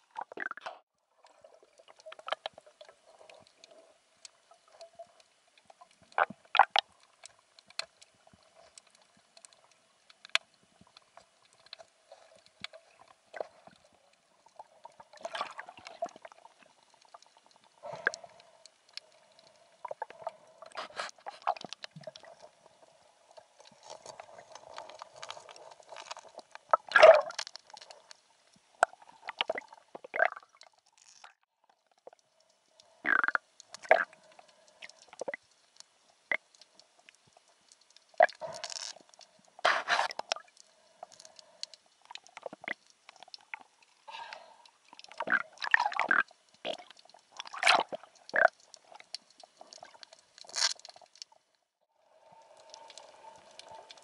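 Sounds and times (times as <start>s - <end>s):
underwater clicks and crackles: 0.0s - 54.0s
water gurgling: 0.0s - 54.0s.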